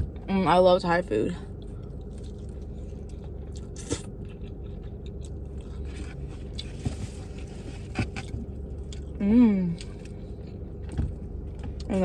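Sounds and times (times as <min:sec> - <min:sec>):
soft chewing: 0:01.5 - 0:11.9.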